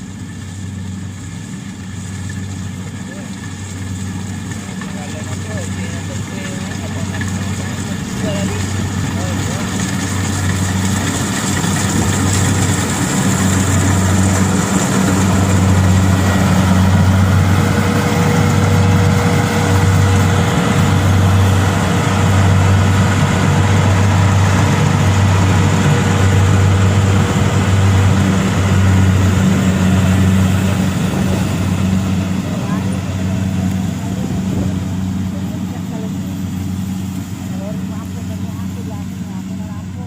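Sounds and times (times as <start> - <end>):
combine harvester engine humming: 0.0 - 40.0.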